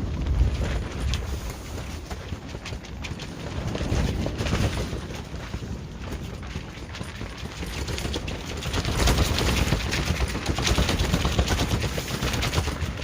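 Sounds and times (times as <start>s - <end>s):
fast flapping rattle: 0.0s - 13.0s
wind buffeting microphone: 0.0s - 13.0s.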